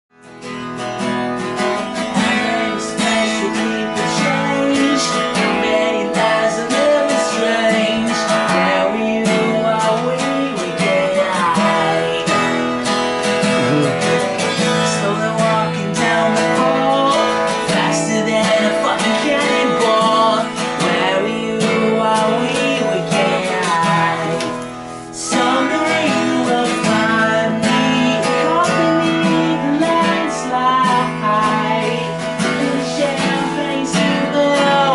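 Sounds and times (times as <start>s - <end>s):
acoustic guitar strumming: 0.1s - 34.9s
man singing: 2.0s - 34.9s.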